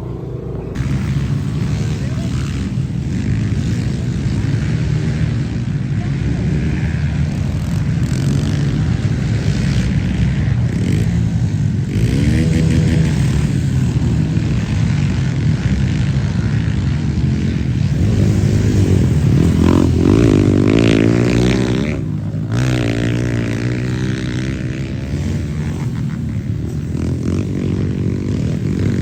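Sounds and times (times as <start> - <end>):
dirt bike engines revving: 0.0 - 29.0
steady rushing noise: 0.0 - 29.0.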